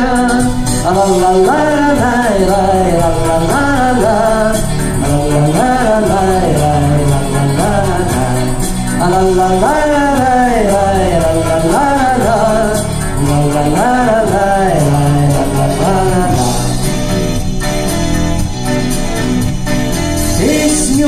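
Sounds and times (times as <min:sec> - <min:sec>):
pop song over speakers: 0:00.0 - 0:21.0.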